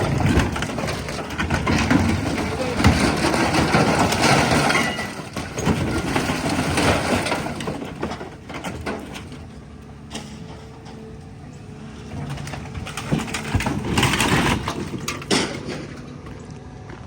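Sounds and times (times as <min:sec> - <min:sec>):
scrap metal crunching: 0:00.0 - 0:16.4
excavator engine running: 0:00.0 - 0:17.0.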